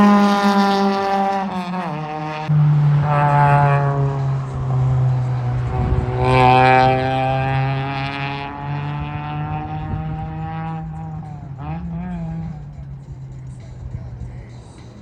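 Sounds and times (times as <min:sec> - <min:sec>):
sports car engine running: 0:00.0 - 0:15.0.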